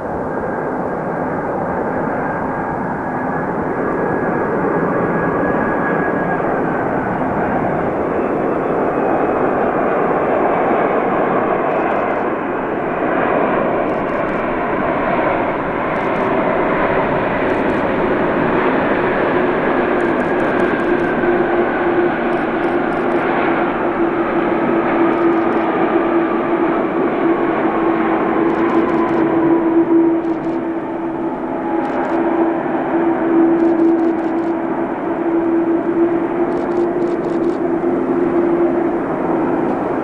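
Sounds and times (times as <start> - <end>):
high engine whine: 0.0 - 40.0
jet engines roaring: 0.0 - 40.0.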